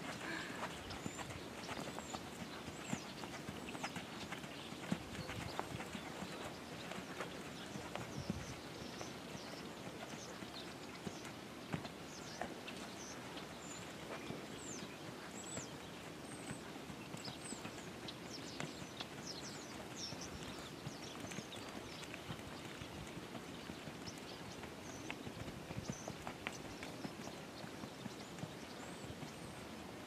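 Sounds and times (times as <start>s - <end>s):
horse hooves on sand: 0.0s - 30.0s.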